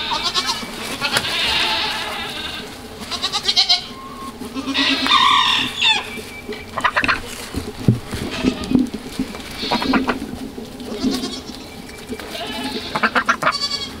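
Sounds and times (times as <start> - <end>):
goats bleating: 0.0 - 14.0.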